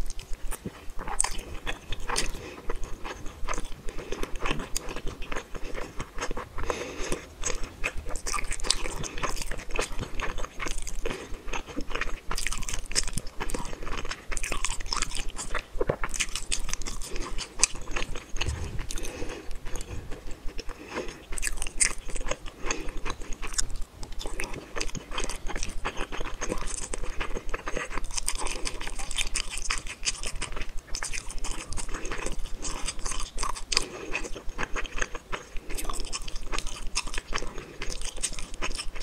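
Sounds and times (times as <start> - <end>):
chewing mouth clicks: 0.0 - 39.0.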